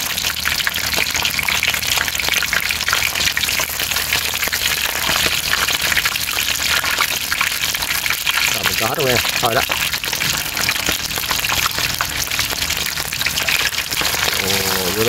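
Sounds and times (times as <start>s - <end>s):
fish deep-frying in hot oil: 0.0s - 15.0s.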